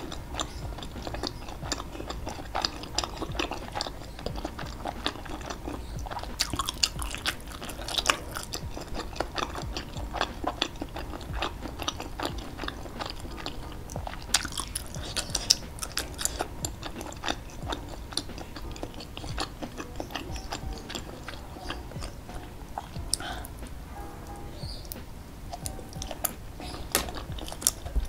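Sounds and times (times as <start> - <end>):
person chewing with mouth clicks: 0.0 - 23.7, 24.7 - 28.0.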